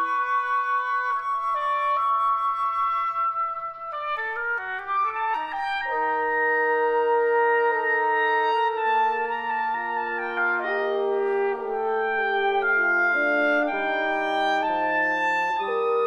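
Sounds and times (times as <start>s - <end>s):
chamber wind ensemble playing: 0.0s - 16.0s.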